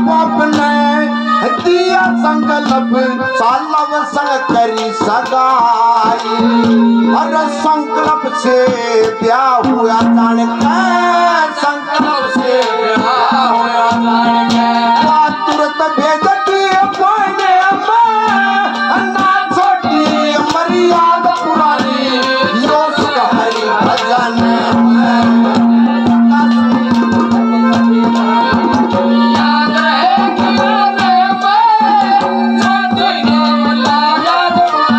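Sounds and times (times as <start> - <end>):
hand drums playing: 0.0 - 34.9.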